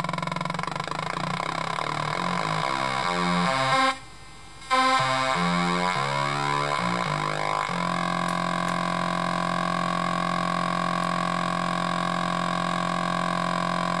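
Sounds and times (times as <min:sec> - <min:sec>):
buzzy electronic synth tone: 0:00.0 - 0:14.0.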